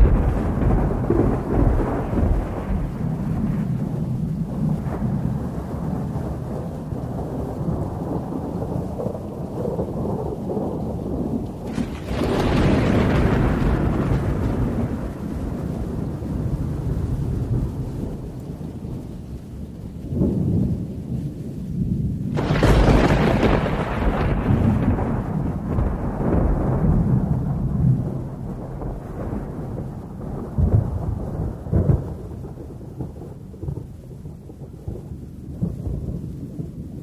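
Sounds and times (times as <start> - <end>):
loud thunder crack: 0.0 - 18.3, 22.3 - 35.0
thunder rumbling: 0.0 - 37.0.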